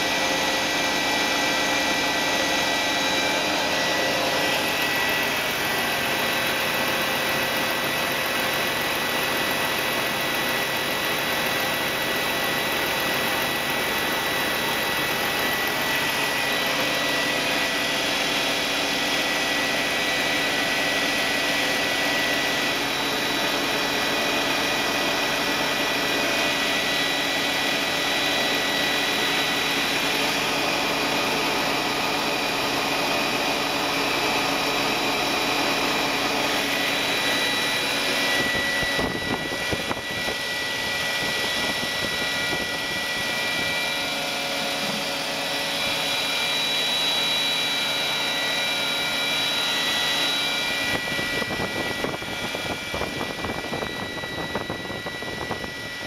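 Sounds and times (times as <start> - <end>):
car engine idling: 0.0 - 49.6
air pump whining drone: 0.0 - 56.0.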